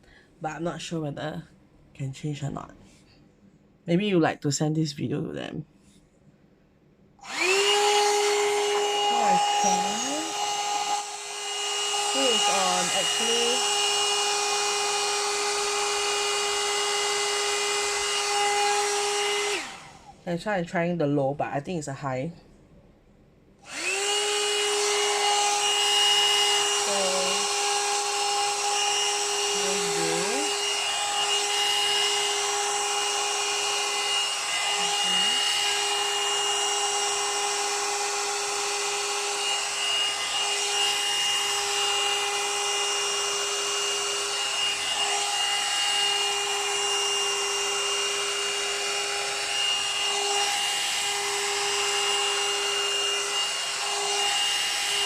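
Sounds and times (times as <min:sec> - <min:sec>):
hair dryer motor whine and air: 0:07.2 - 0:20.9, 0:23.6 - 0:55.0.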